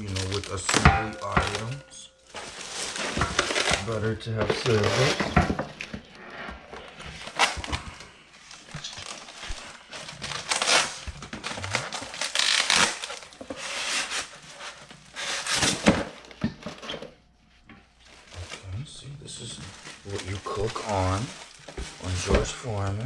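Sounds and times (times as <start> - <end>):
plastic wrap crinkling: 0.0 - 16.9, 17.9 - 23.0.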